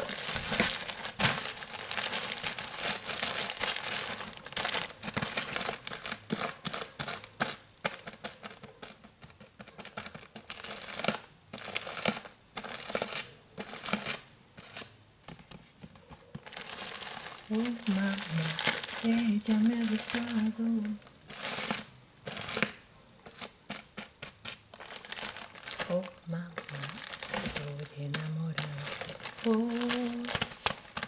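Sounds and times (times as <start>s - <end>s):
fingernails scratching plastic wrap: 0.0s - 15.0s, 15.6s - 31.0s.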